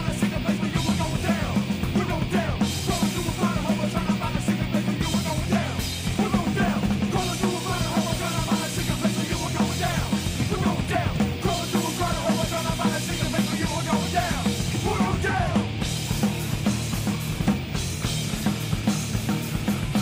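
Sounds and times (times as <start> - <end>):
drum kit keeping beat: 0.0 - 20.0
metal band playing: 0.0 - 20.0.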